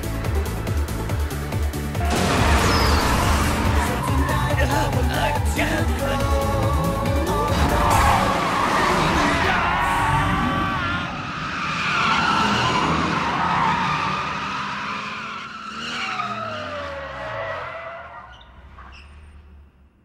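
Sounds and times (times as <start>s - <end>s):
car engine revving: 0.0s - 19.8s
tires squealing: 1.9s - 19.8s.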